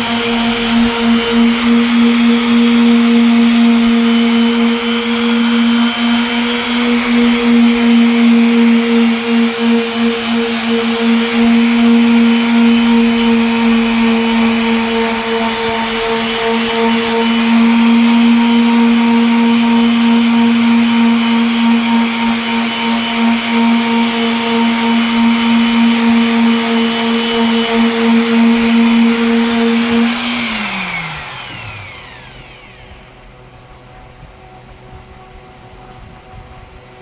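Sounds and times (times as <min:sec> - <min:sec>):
motor winding down: 0:00.0 - 0:35.0
electric sander running: 0:00.0 - 0:36.9.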